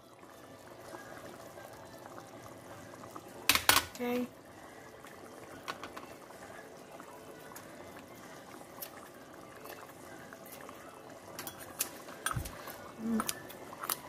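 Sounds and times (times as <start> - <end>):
pasta water boiling: 0.0 - 14.0.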